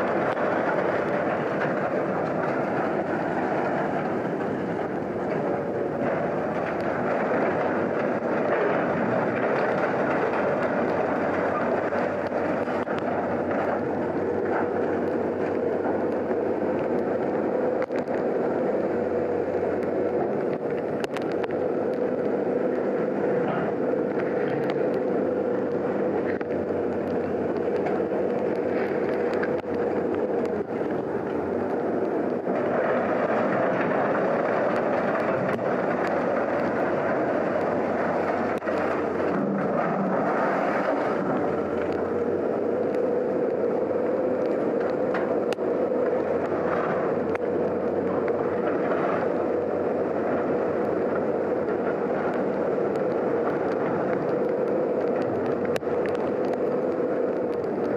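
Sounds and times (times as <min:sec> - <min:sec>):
vehicle running: 0:00.0 - 0:57.9.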